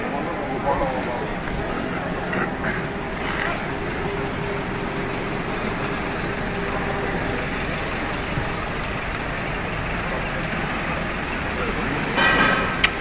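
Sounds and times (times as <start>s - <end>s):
city street traffic: 0.0s - 13.0s
steady hum: 0.0s - 13.0s
vehicle engine running: 0.0s - 13.0s.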